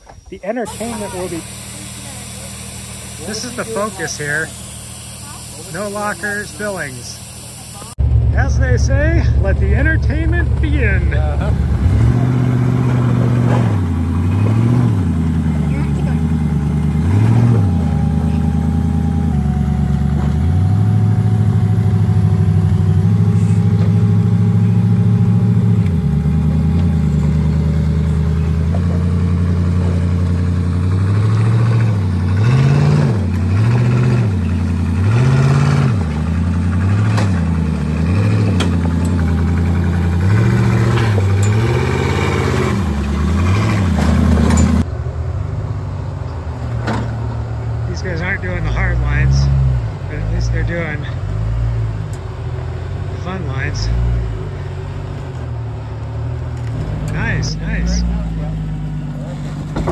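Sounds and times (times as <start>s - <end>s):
off-road vehicle engine revving: 0.5s - 59.9s.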